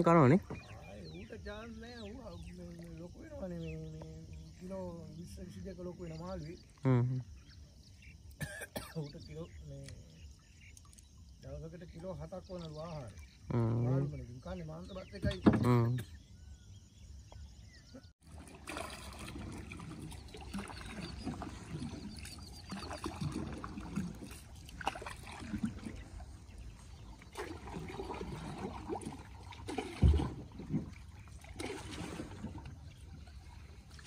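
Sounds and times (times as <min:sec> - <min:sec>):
water trickling and splashing: 0:00.0 - 0:16.3, 0:17.2 - 0:34.0.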